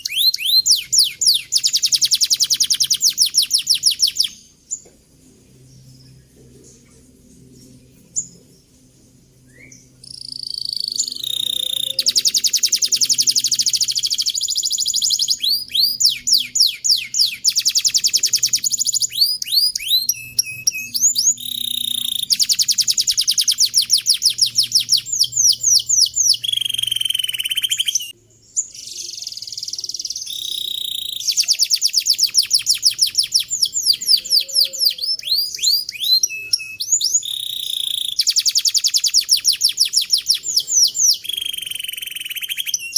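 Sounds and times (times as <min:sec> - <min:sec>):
canary singing trills: 0:00.0 - 0:04.9, 0:09.4 - 0:42.9.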